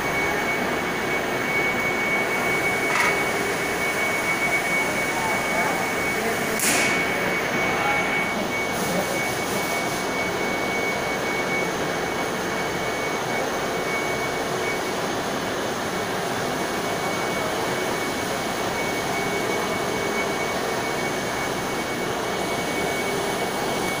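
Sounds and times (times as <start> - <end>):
machine whirring with high whine: 0.0 - 24.0.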